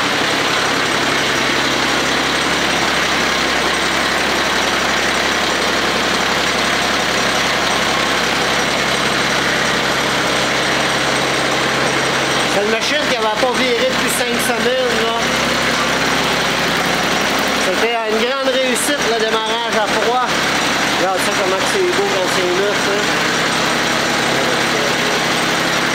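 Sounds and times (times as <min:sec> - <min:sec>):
diesel tractor engine running: 0:00.0 - 0:25.9.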